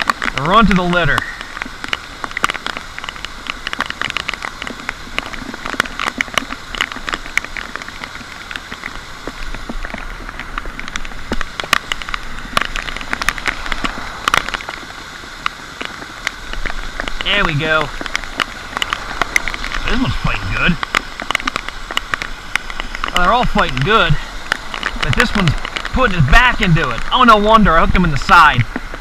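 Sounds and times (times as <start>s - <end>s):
rain patter: 0.0s - 29.0s.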